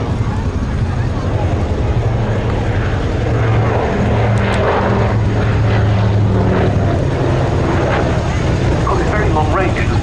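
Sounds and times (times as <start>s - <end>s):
aircraft propeller drone: 0.0s - 10.0s.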